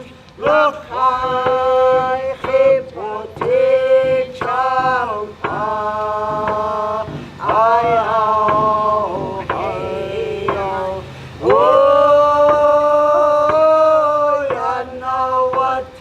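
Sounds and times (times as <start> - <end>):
faint sharp beats: 0.0 - 16.0
person singing chant-like song: 0.0 - 16.0.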